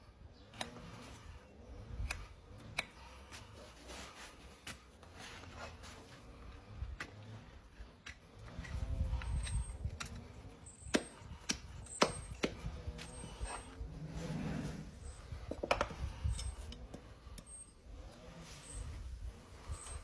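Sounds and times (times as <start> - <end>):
tools scraping a horse's hoof: 0.4 - 20.0.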